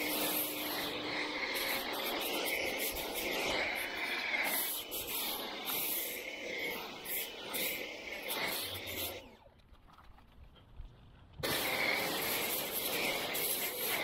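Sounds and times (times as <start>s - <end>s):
foam cannon spraying hiss: 0.0s - 9.2s, 11.4s - 14.0s.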